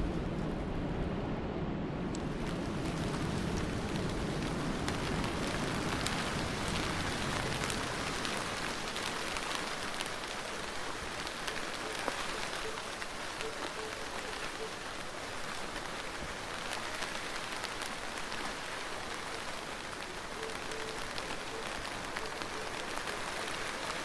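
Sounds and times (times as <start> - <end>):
hiss of rainfall: 2.0 - 24.0
raindrops ticking on a surface: 2.1 - 24.0.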